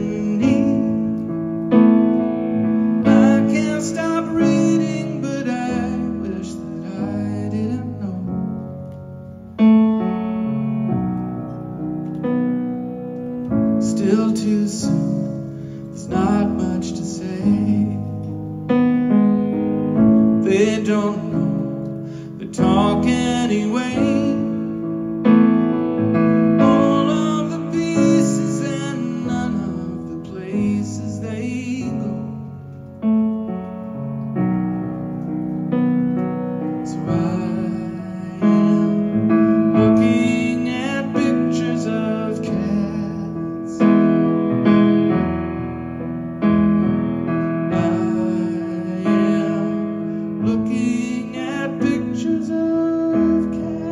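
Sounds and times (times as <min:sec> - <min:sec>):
grand piano chords: 0:00.0 - 0:53.9.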